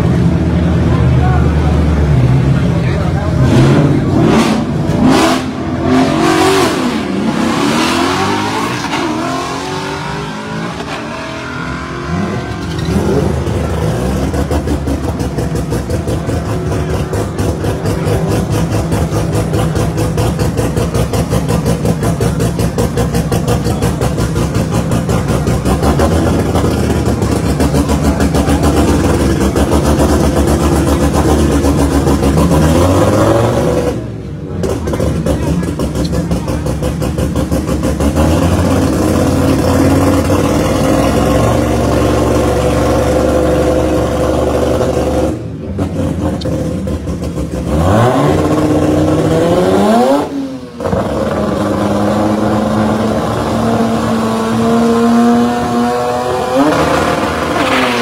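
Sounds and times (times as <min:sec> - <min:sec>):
rotary engine revving: 0:02.4 - 0:58.0.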